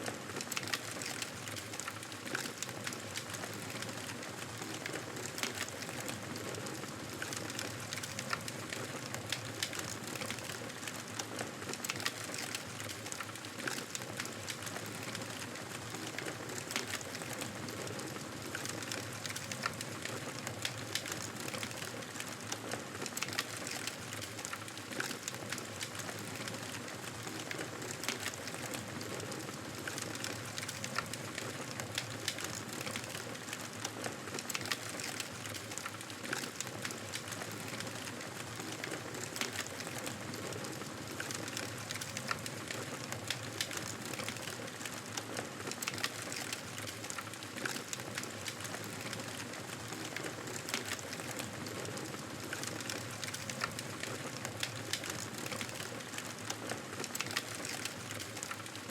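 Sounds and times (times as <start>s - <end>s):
wood fire crackling: 0.1s - 58.9s.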